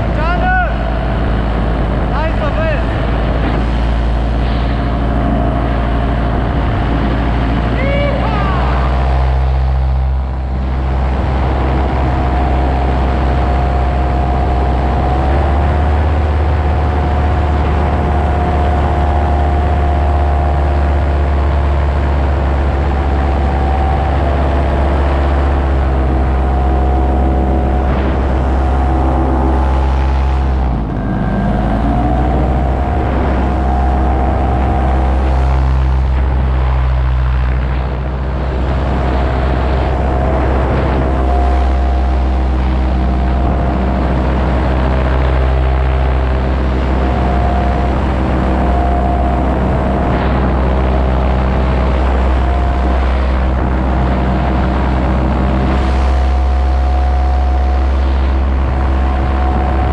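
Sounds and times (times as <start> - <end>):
paramotor engine droning: 0.0 - 59.9.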